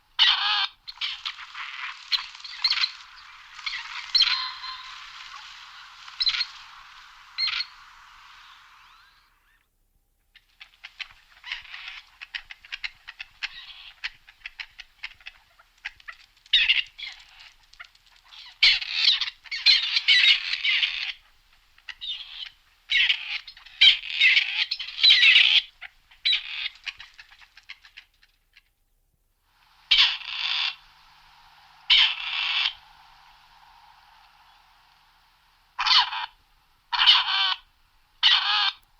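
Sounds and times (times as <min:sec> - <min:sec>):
partridge calling: 0:00.2 - 0:09.6, 0:10.4 - 0:28.7, 0:29.7 - 0:38.9.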